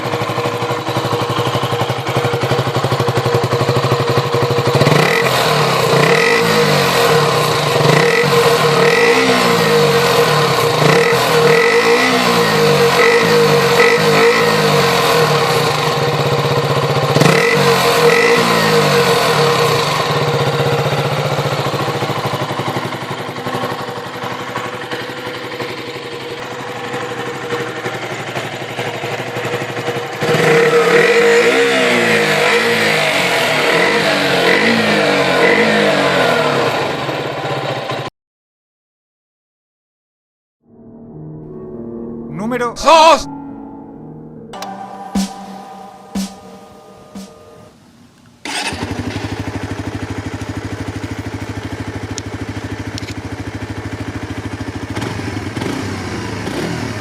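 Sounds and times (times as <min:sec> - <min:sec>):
motorcycle engine revving: 0:00.0 - 0:38.1, 0:48.4 - 0:57.0.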